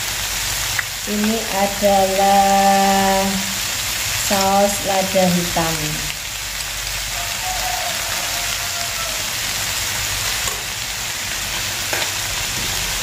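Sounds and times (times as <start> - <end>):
stir-fry sizzling in wok: 0.0 - 13.0.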